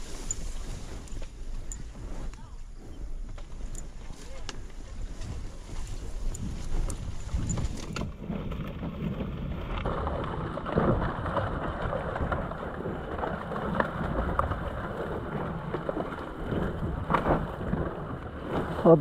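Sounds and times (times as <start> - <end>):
dirt bike engine at low revs: 0.0 - 19.0
grass and brush rustling: 0.0 - 19.0
wind noise on microphone: 0.0 - 19.0.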